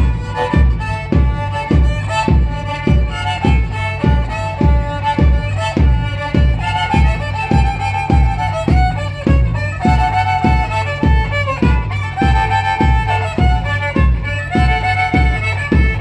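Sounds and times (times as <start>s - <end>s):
steady deep beat: 0.0s - 16.0s
violin melody: 0.0s - 16.0s.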